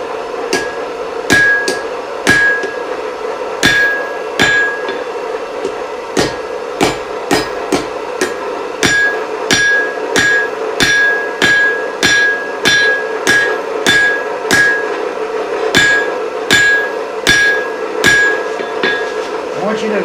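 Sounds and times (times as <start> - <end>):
hammer striking steel on anvil: 0.0 - 3.0, 3.6 - 19.4
steady hum: 0.0 - 20.0.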